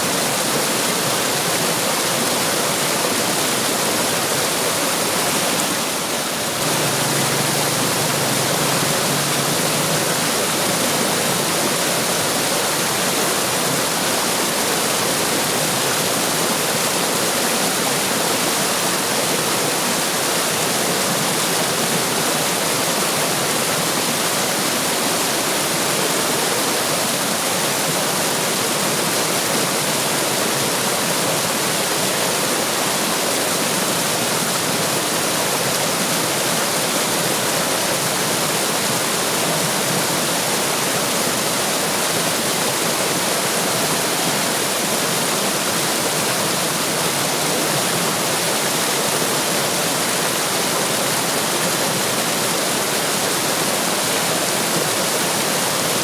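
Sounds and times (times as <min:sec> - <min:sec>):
water splashing and rushing: 0:00.0 - 0:56.0.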